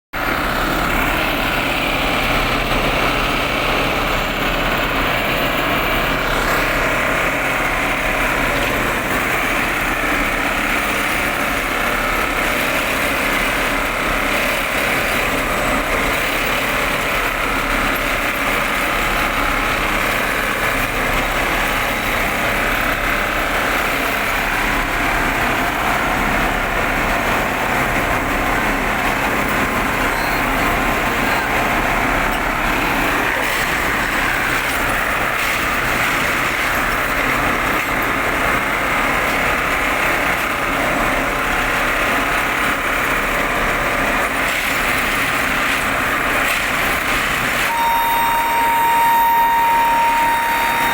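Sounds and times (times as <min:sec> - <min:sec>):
machine clatter and hum: 0:00.2 - 0:50.9.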